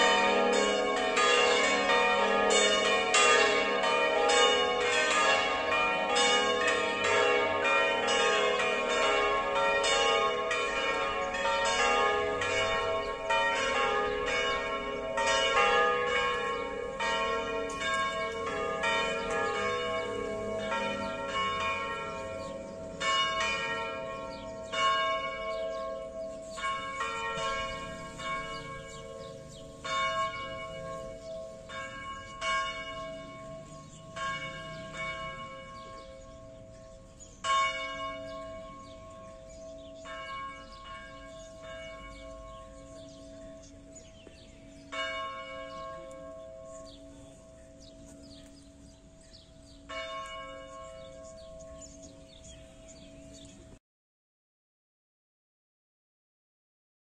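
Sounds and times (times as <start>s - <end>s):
church bells pealing: 0.0s - 53.8s.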